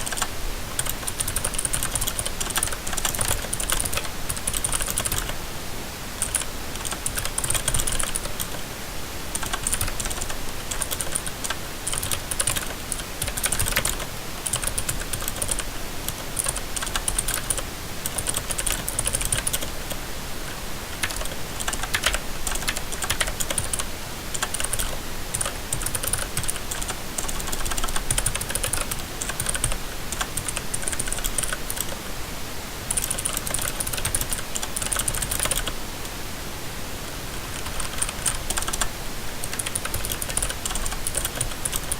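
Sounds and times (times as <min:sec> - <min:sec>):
typing on mechanical keyboard: 0:00.0 - 0:05.4, 0:06.2 - 0:08.6, 0:09.3 - 0:19.8, 0:21.0 - 0:32.0, 0:32.9 - 0:35.8, 0:37.5 - 0:41.9.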